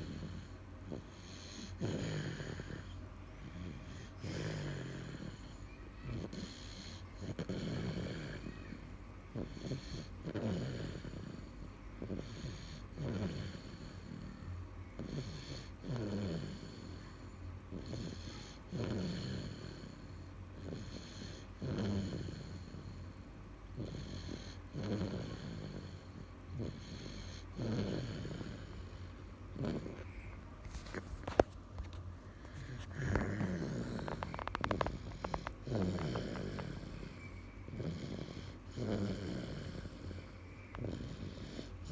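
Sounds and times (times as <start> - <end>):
baby snoring: 0.0 - 23.1, 23.8 - 31.5, 32.4 - 41.9.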